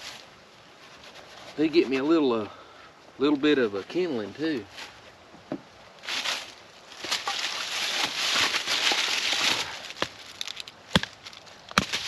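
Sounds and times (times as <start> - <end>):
rustling of dry brush: 0.0 - 12.0.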